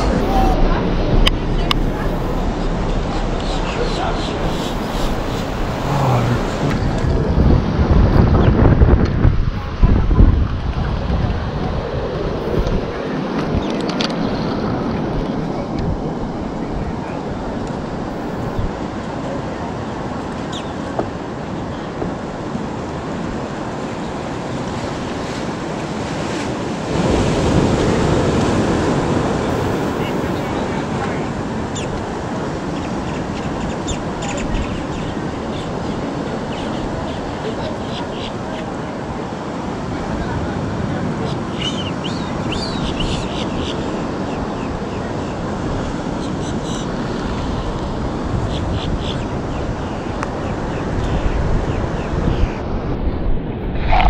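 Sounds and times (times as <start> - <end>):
ocean surf washing: 0.0 - 54.0
wind on microphone: 0.0 - 54.0.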